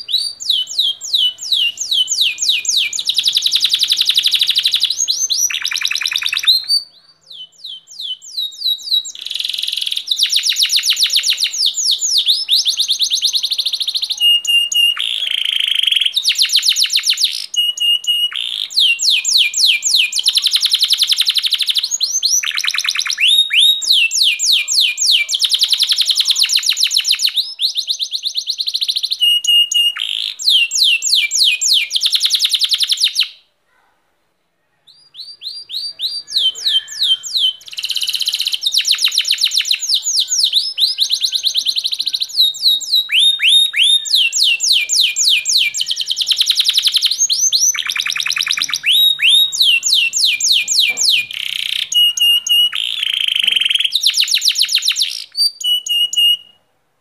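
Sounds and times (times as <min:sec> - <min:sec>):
canary singing trills: 0:00.0 - 0:33.5, 0:34.7 - 0:56.6.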